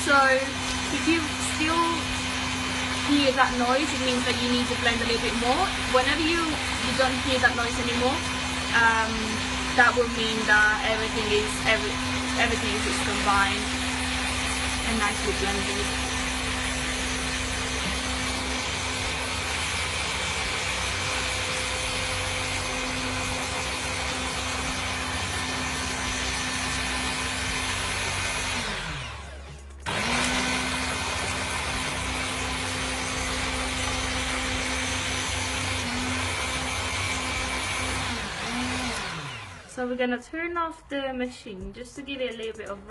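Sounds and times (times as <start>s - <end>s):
electric blender motor running: 0.0s - 40.0s.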